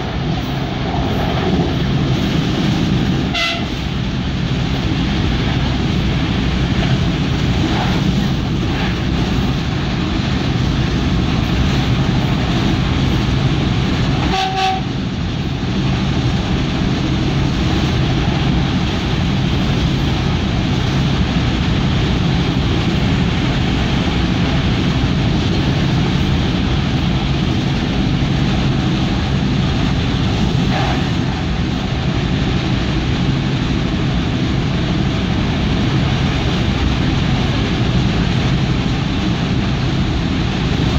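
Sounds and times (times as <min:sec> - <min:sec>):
train running inside carriage: 0:00.0 - 0:40.9.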